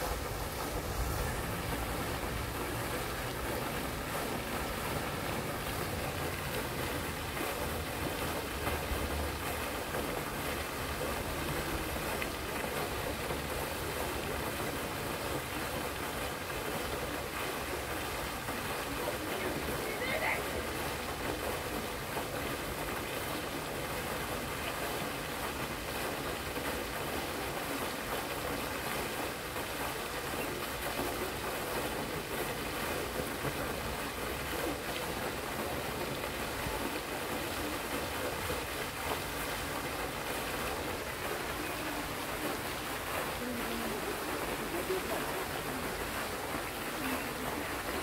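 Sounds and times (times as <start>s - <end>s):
fountain water splashing: 0.0s - 48.0s.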